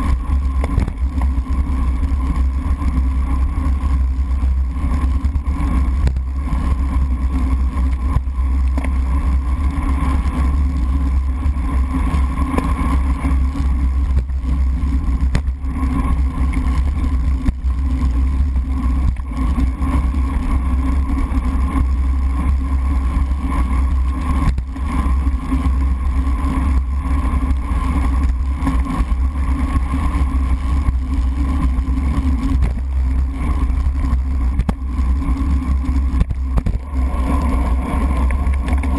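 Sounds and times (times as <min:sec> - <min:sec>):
wind rumble: 0:00.0 - 0:38.9.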